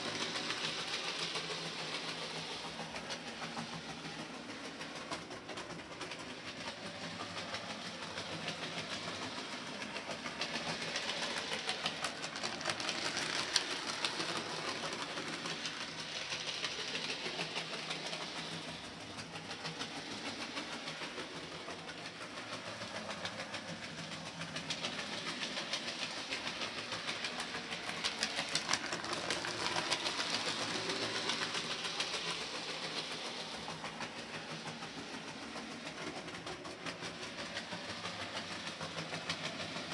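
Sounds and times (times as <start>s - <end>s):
model train wheels clicking on rails: 0.0s - 39.9s.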